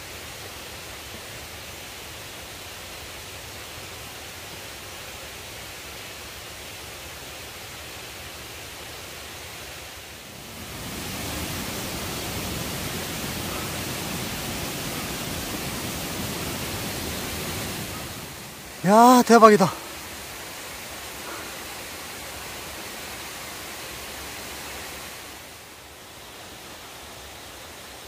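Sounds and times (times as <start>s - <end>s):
mountain stream rushing: 0.0s - 28.0s.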